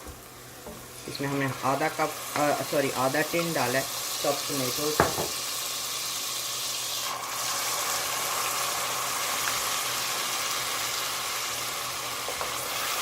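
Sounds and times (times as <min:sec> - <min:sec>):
tomatoes sizzling in hot oil: 0:00.0 - 0:13.0.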